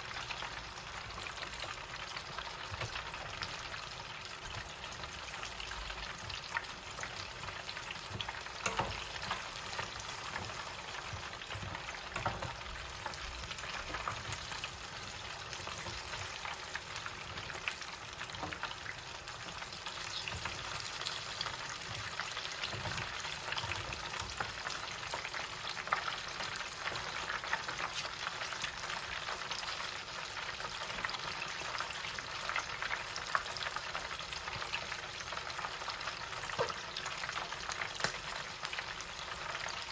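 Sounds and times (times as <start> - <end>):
chicken deep-frying in oil: 0.0 - 39.9.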